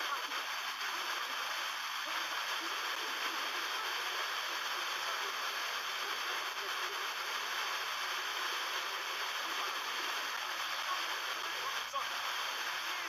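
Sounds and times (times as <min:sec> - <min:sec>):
faint radio station audio: 0:00.0 - 0:13.0
radio static hiss: 0:00.0 - 0:13.0.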